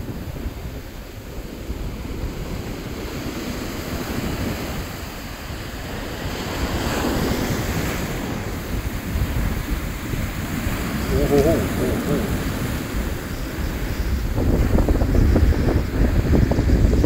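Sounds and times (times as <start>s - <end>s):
surf washing up pebble beach: 0.0s - 17.0s
wind buffeting microphone: 0.0s - 17.0s.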